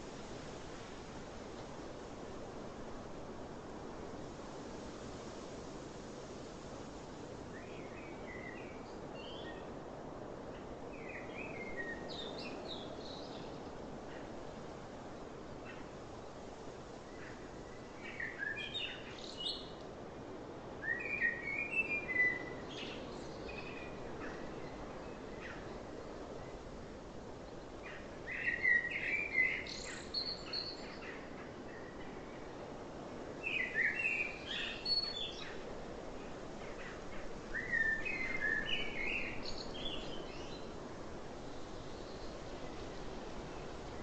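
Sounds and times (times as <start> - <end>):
low background hiss: 0.0 - 44.0.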